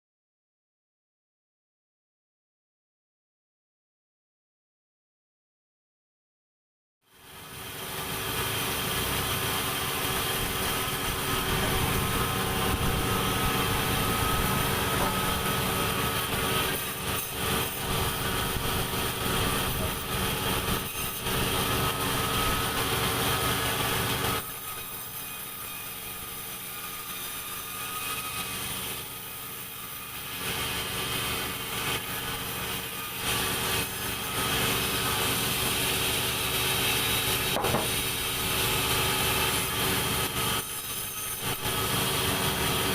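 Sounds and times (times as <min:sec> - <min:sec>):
sawmill saw humming: 0:07.1 - 0:42.9.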